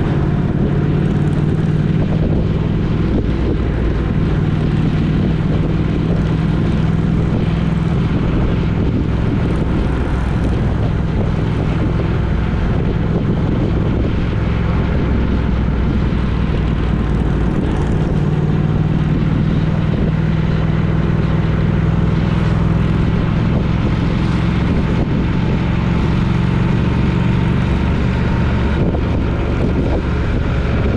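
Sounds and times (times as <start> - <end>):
vehicle engine drone: 0.0 - 30.9.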